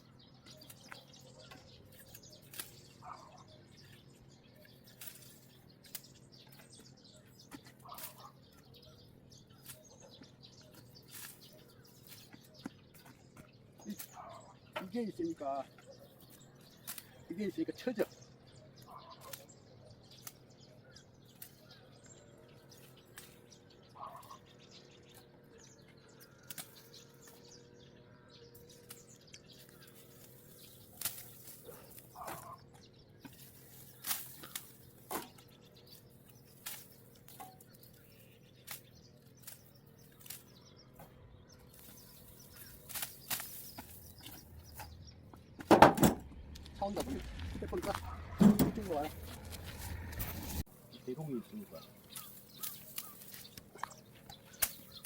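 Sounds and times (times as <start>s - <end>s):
bird chirps: 0.0s - 55.0s.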